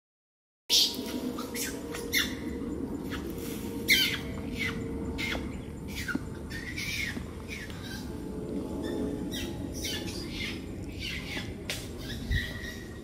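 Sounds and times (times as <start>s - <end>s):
low background hum: 0.7s - 13.0s.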